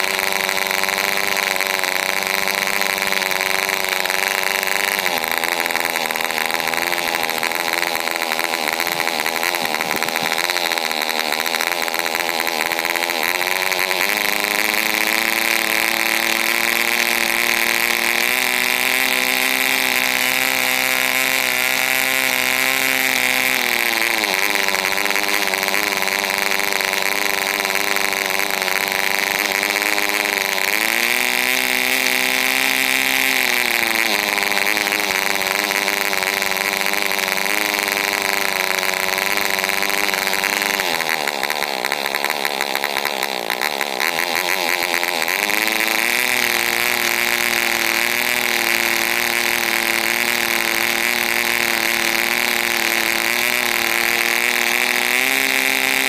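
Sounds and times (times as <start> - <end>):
model two-stroke engine running: 0.0 - 56.0.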